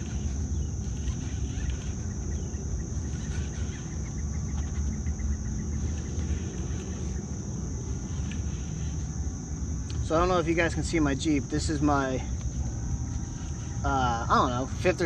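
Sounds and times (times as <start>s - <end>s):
high-pitched insect buzz: 0.0s - 15.0s.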